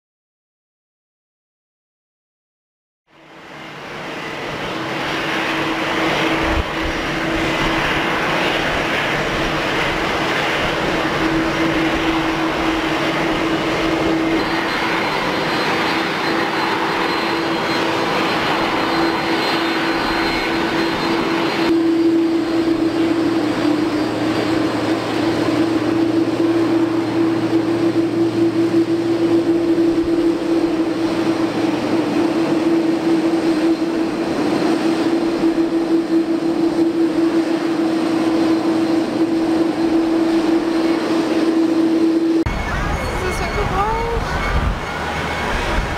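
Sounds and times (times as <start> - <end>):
jet engine whine: 3.1 - 45.9
constant tone: 3.4 - 45.9.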